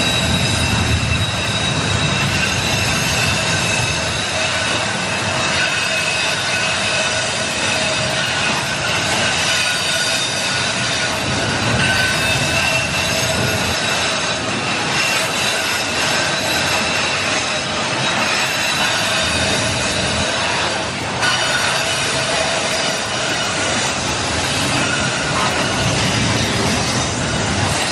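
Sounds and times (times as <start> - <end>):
high wheel squeal: 0.0 - 27.9
steel wheels rumbling on rails: 0.0 - 27.9.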